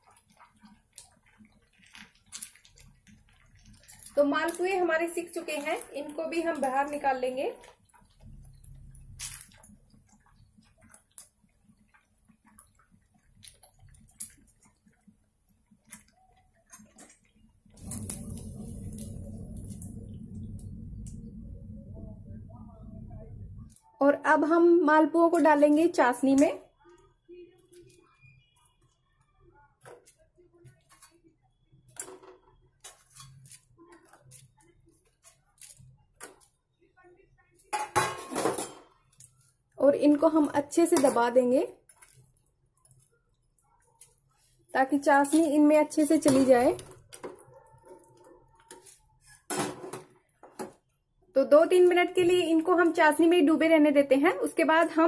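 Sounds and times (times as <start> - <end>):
oil crackling and popping: 0.0 - 22.0, 25.2 - 38.1, 38.8 - 53.6.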